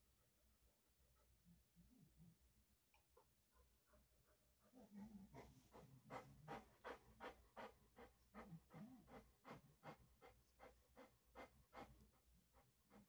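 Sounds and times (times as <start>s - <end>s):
dog panting faintly: 0.0s - 13.0s.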